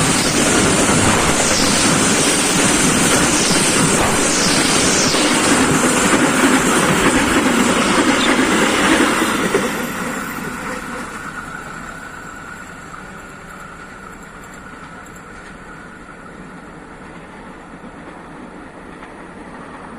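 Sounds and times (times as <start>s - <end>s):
train passing close by: 0.0s - 19.9s.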